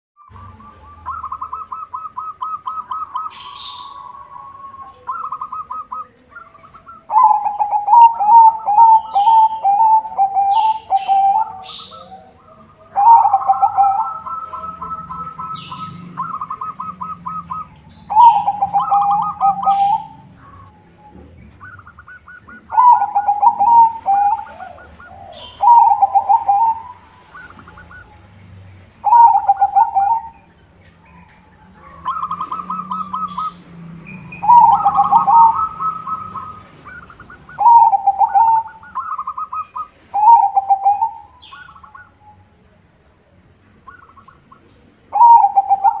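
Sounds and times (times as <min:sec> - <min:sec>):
high bird chirps: 0:00.2 - 0:42.5
dove cooing: 0:00.2 - 0:42.6, 0:43.8 - 0:46.0.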